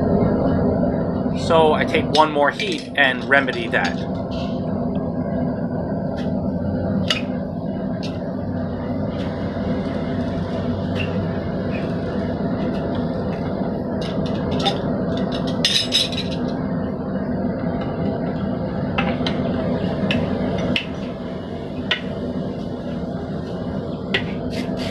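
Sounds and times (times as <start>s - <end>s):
forge humming: 0.0s - 24.9s.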